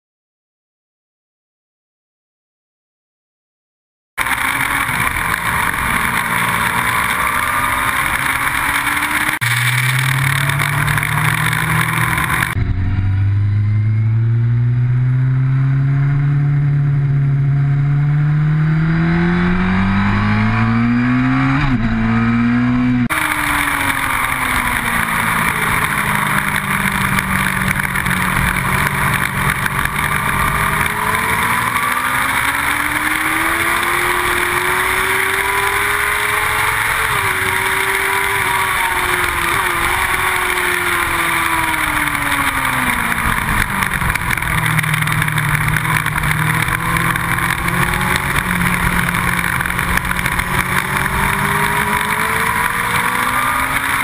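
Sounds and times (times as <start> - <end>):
motorcycle engine: 4.2 - 54.0.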